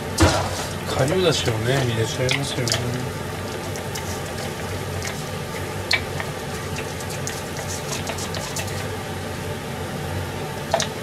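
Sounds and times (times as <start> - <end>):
broth bubbling in a frying pan: 0.0 - 11.0
steady low hum: 0.0 - 11.0.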